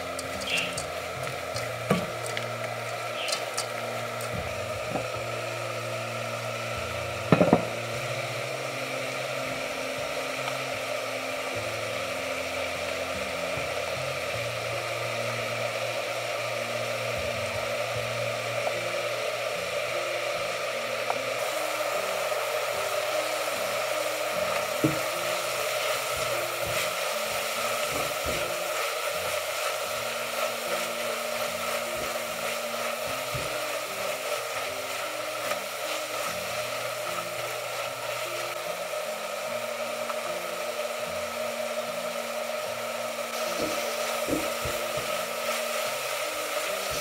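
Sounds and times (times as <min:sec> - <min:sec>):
food sizzling in a pot: 0:00.0 - 0:47.0.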